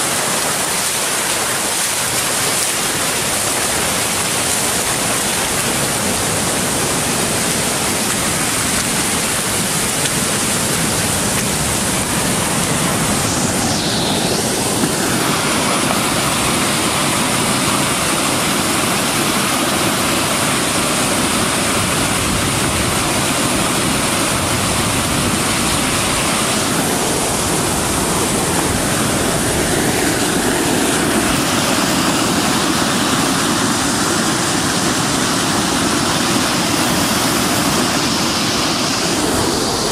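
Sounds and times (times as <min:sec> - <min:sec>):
water rushing over spillway: 0:00.0 - 0:39.9.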